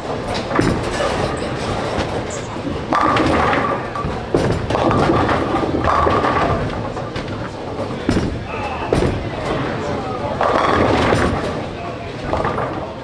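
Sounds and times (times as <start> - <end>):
clatter of balls and pins: 0.0 - 13.0
bowling ball thudding and rolling: 0.1 - 13.0.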